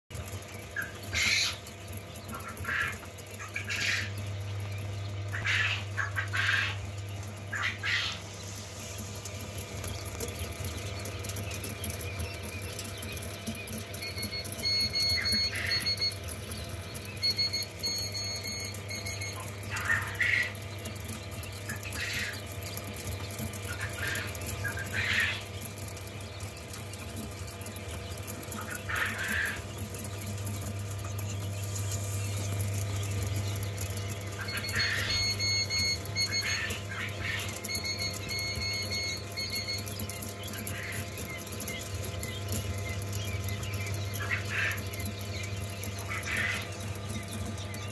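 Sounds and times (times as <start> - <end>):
quail chicks peeping: 0.1 - 47.9
steady low hum: 0.1 - 47.9.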